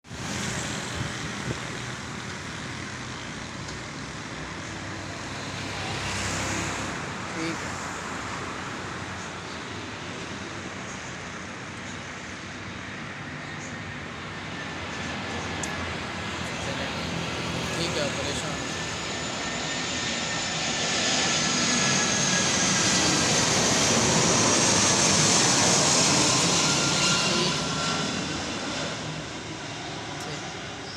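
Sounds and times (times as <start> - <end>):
airplane engines roaring: 0.0 - 30.9.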